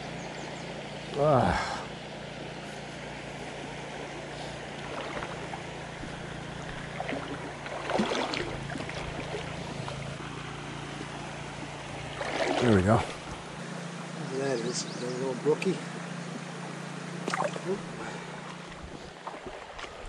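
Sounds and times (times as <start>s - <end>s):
creek water flowing over stones: 0.6s - 14.4s, 15.9s - 20.0s.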